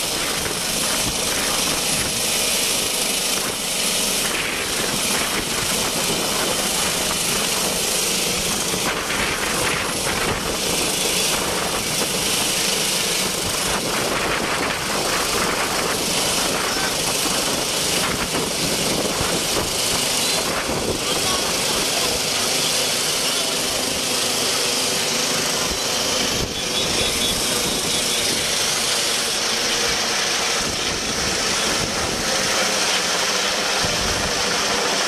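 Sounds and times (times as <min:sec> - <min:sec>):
helicopter rotors and turbines: 0:00.0 - 0:35.0.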